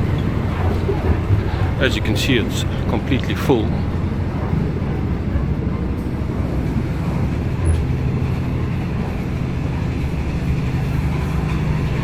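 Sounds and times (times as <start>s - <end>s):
constant hum: 0.0s - 12.0s
train rumble inside carriage: 0.0s - 12.0s.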